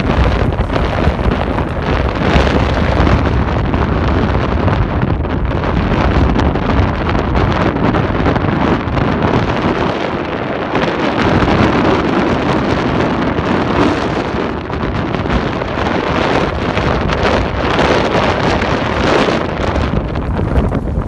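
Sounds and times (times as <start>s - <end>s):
wind blasting over microphone: 0.0s - 21.0s.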